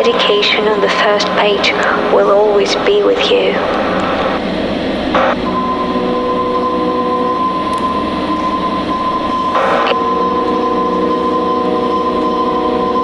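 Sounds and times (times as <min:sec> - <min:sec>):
electronic drone of hiss: 0:00.0 - 0:13.0
held electronic tones: 0:00.0 - 0:13.0.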